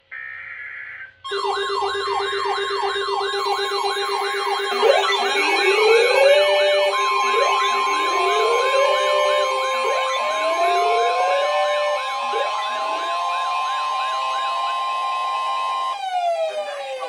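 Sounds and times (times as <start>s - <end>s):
electronic siren yelping: 0.9s - 17.0s
siren rising wails: 1.3s - 17.0s
steady siren tone: 1.3s - 17.0s.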